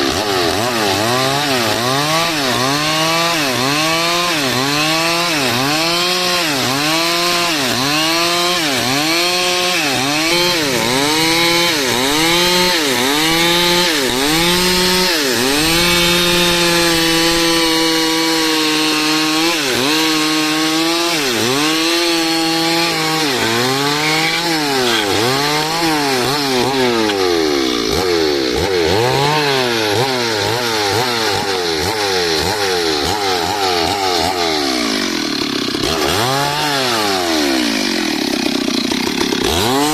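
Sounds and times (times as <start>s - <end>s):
chainsaw cutting dry wood: 0.0s - 39.9s.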